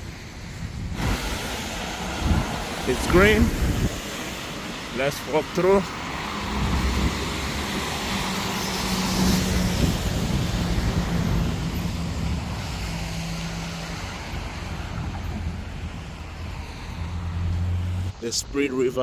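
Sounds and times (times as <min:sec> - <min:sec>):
tyre hiss on wet road: 0:00.0 - 0:14.9, 0:15.6 - 0:17.8
traffic engine hum: 0:00.0 - 0:19.0.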